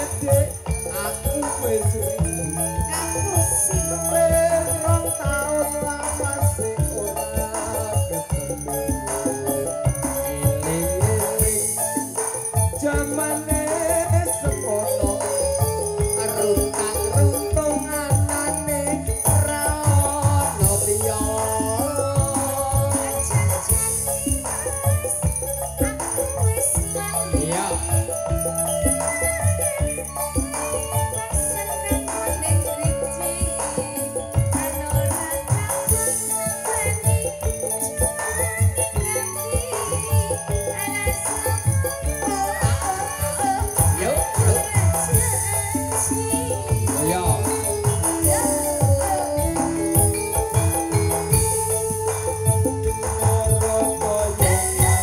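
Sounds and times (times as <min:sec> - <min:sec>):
electronic keyboard: 0:00.0 - 0:55.0
gamelan ensemble: 0:00.0 - 0:55.0
person singing: 0:00.0 - 0:55.0
ringing metallophones: 0:00.0 - 0:55.0
steady drum beat: 0:00.0 - 0:55.0.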